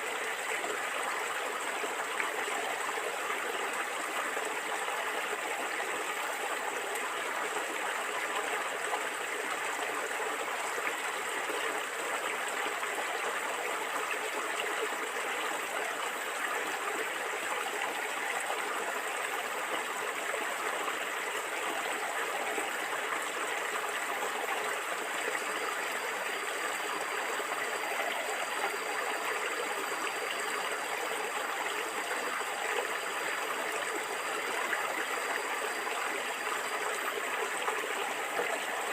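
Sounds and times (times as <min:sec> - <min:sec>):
stream water gurgling: 0:00.0 - 0:38.9.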